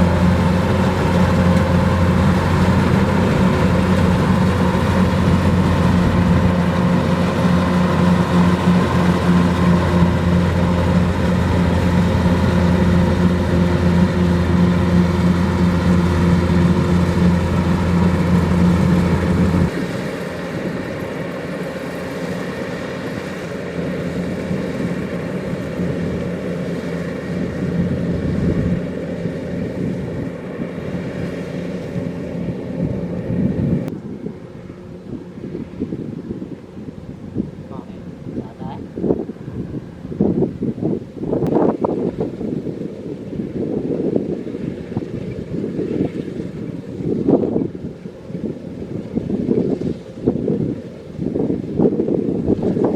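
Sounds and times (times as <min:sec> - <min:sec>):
combine harvester diesel engine: 0:00.0 - 0:52.9.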